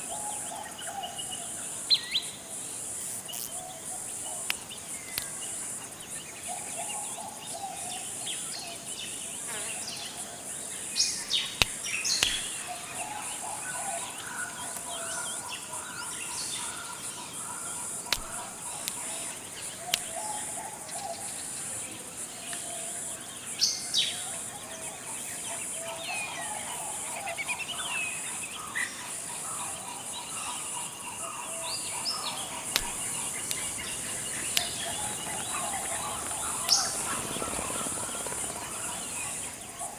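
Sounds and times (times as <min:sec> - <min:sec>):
high insect drone: 0:00.0 - 0:39.9
birds calling and chirping: 0:03.1 - 0:21.6, 0:22.5 - 0:39.9.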